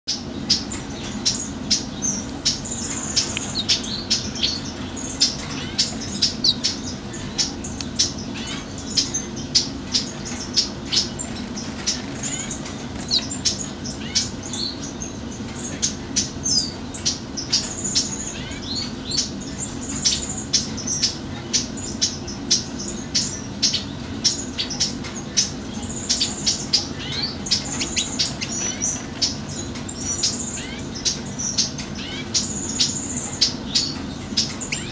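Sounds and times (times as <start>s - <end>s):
finches twittering: 0.1s - 34.9s.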